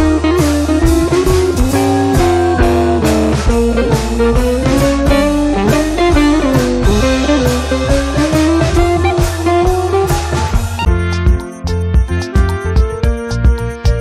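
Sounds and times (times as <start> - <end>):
steady drum beat: 0.0 - 11.6
guitar tune: 0.0 - 14.0.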